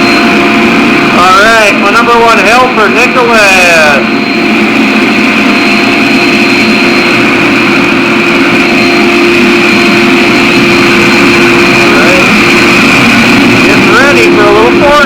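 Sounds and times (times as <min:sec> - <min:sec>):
forge burner and blower rushing: 0:00.0 - 0:15.0.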